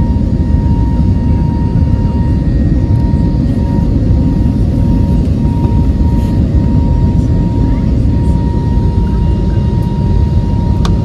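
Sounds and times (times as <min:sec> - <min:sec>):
airliner engine rumble: 0:00.0 - 0:11.0
thin steady whine: 0:00.0 - 0:11.0.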